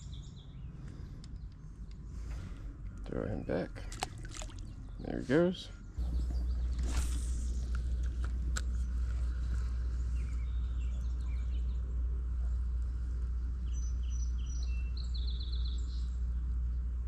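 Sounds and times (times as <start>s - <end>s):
songbirds chirping: 0.0s - 17.0s
steady low rumble: 0.0s - 17.0s.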